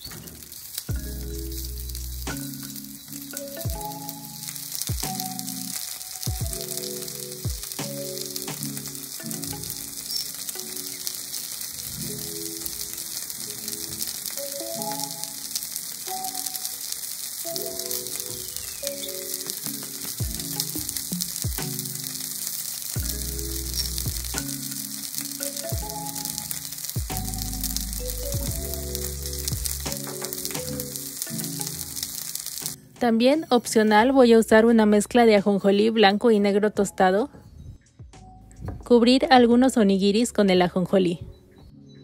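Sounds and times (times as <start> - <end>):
food sizzling in a frying pan: 0.0 - 34.0
background music: 0.0 - 42.0.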